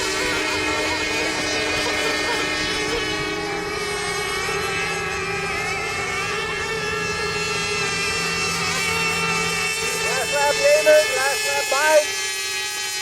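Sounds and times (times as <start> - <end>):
racing boat motors whining: 0.0 - 13.0.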